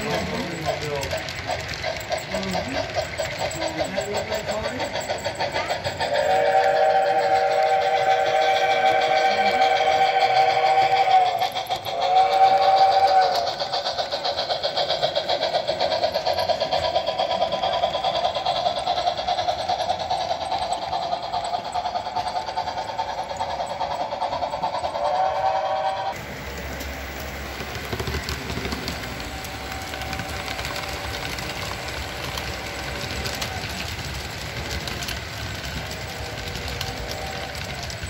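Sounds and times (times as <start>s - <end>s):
model steam locomotive tone: 0.0s - 38.0s
model train wheels rumbling: 0.0s - 38.0s.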